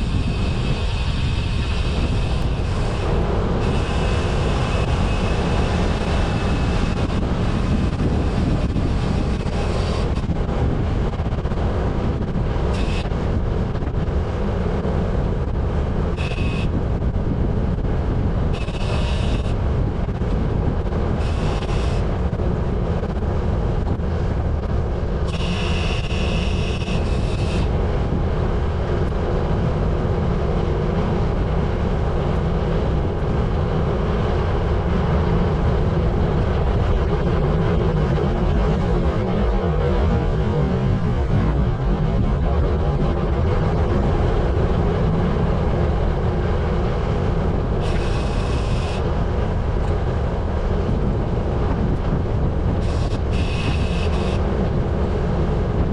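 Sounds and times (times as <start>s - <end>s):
low road rumble: 0.0s - 55.9s
wind buffeting microphone: 0.0s - 55.9s.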